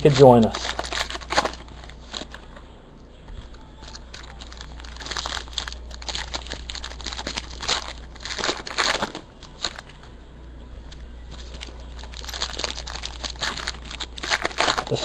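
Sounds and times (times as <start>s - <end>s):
foil wrappers crinkling and tearing: 0.0s - 2.5s, 3.8s - 10.1s, 11.3s - 15.0s.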